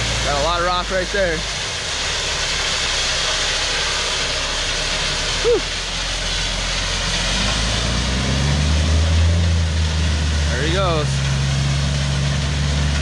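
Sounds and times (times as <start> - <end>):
gravel pouring from truck: 0.0 - 13.0
truck engine hum: 0.0 - 13.0.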